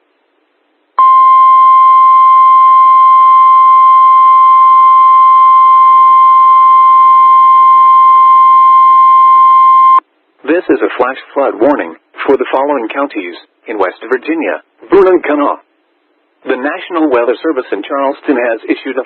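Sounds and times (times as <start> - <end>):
faint radio static hiss: 0.0 - 8.6, 9.5 - 19.0.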